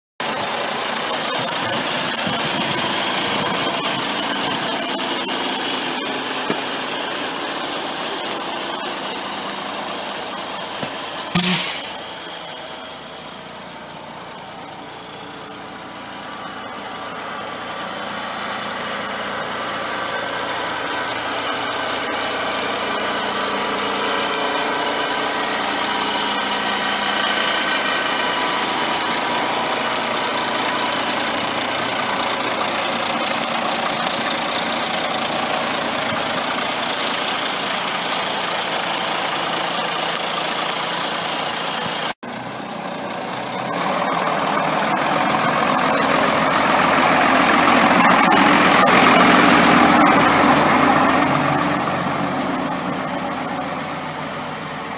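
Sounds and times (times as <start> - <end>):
diesel engine idling: 0.2 - 54.9.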